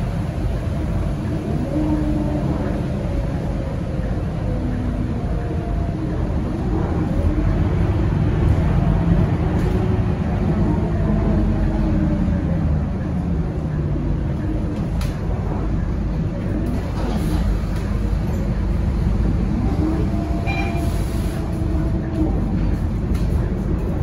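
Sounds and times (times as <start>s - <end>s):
bus engine low rumble: 0.0s - 24.0s.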